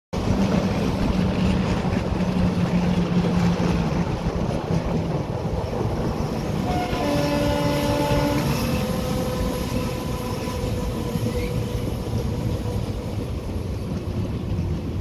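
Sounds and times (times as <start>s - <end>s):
train wheels rumbling on track: 0.1s - 15.0s
wind: 0.1s - 15.0s.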